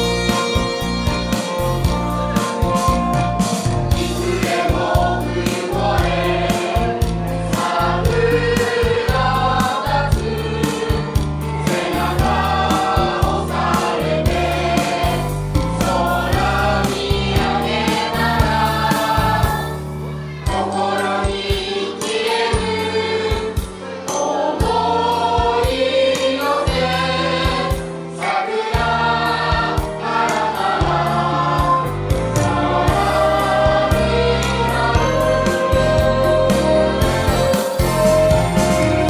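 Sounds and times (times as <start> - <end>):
instrumental accompaniment with beat: 0.0 - 39.0
mixed choir singing: 3.9 - 39.0.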